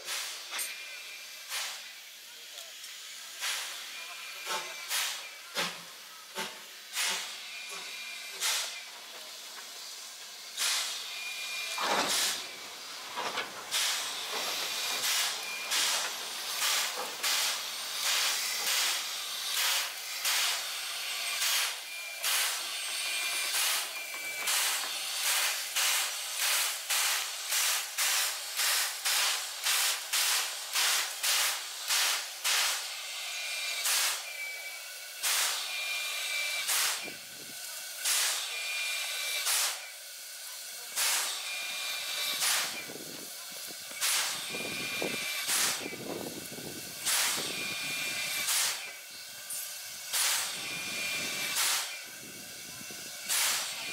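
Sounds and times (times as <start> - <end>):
steam hissing: 0.0 - 53.9
steam locomotive puffs: 0.0 - 53.9.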